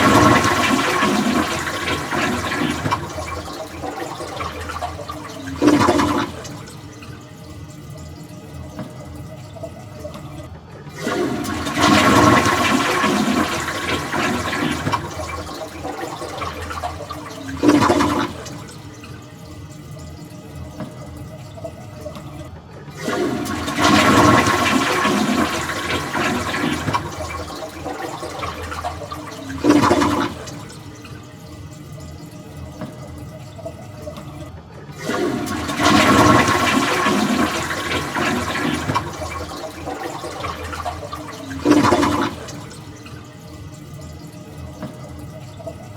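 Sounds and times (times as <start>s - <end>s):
toilet flushing: 0.0s - 45.9s.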